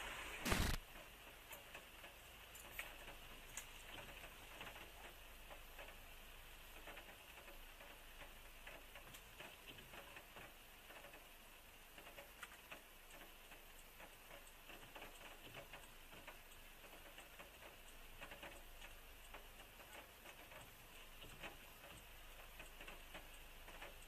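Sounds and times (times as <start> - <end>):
raindrops tapping on car: 0.5 - 24.0.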